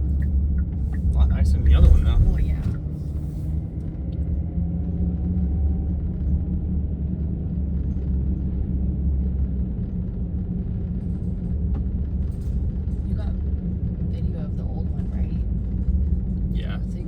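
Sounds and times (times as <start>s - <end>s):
car engine noise: 0.0s - 17.0s
road rumble inside car: 0.0s - 17.0s.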